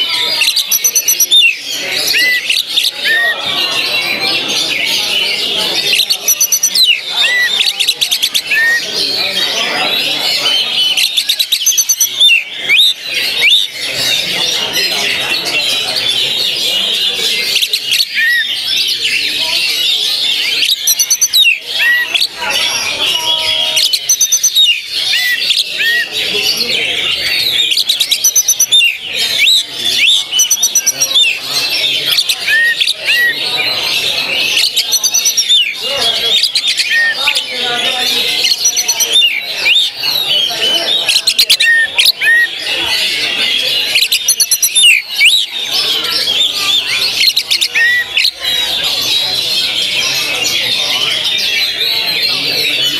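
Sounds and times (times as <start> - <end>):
magpie-robin singing: 0.0 - 52.9
songbirds chattering: 0.0 - 52.9.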